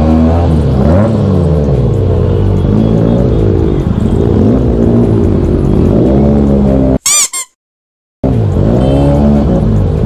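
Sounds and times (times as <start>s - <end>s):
motorcycle engine revving: 0.0s - 7.0s, 8.2s - 10.0s.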